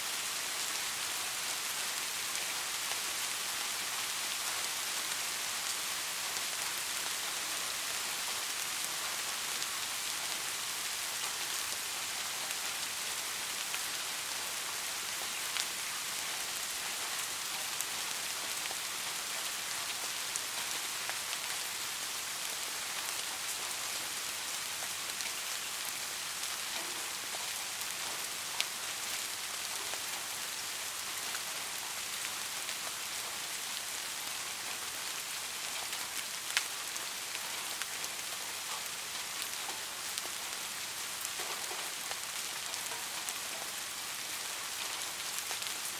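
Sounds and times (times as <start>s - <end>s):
gentle rain falling: 0.0s - 45.9s.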